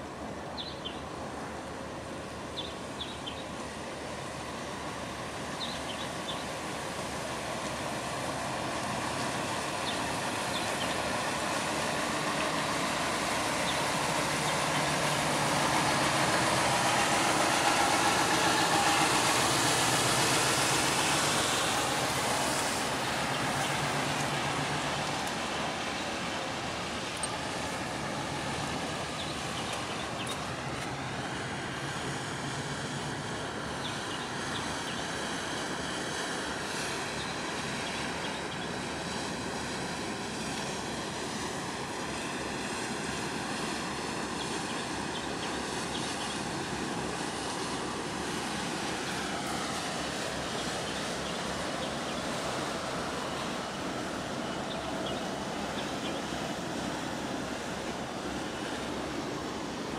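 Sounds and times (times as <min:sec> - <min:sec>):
harbour water: 0:00.0 - 0:59.9
passing motor drone: 0:07.8 - 0:59.9.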